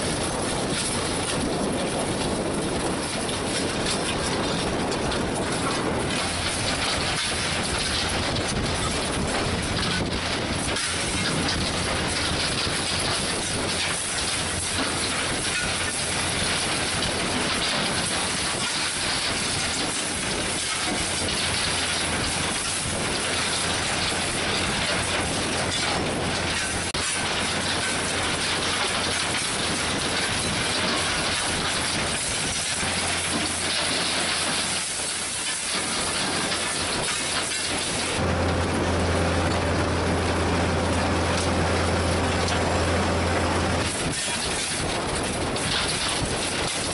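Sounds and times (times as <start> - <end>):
clatter of crushed rubble: 0.0 - 46.9
machinery hum: 0.0 - 46.9.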